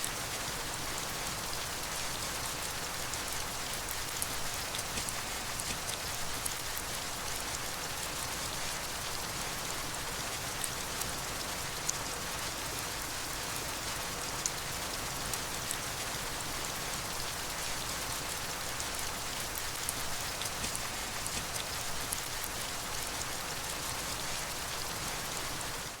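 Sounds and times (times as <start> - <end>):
steady rain hiss: 0.0 - 26.0
raindrop ticks: 1.5 - 12.1, 12.7 - 25.4.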